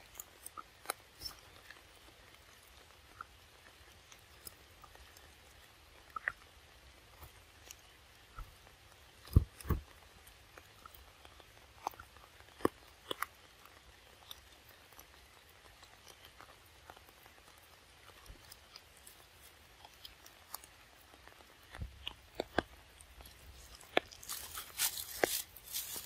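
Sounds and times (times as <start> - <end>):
monkey chewing wetly: 0.0 - 26.0.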